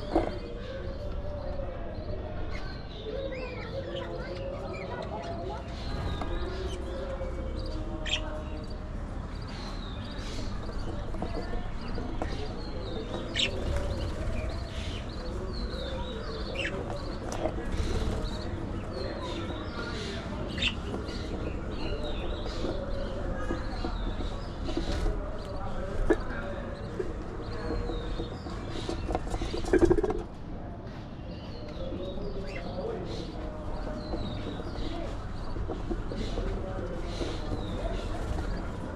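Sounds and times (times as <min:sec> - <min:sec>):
budgies chirping: 0:00.0 - 0:30.3, 0:31.3 - 0:38.9
low warbling chatter: 0:00.0 - 0:38.9.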